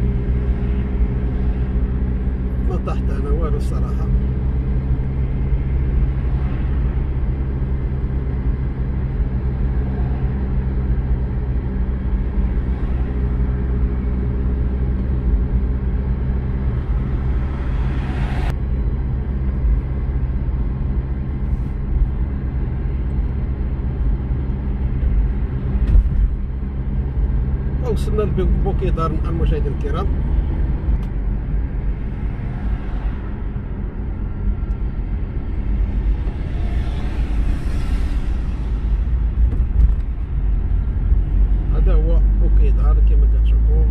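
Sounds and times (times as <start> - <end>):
car engine and tyres rumbling: 0.0 - 43.9.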